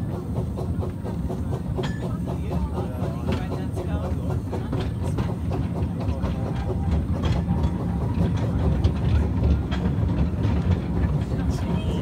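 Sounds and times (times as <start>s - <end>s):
train rumbling: 0.0s - 12.0s
wheels clicking over rail joints: 0.0s - 12.0s.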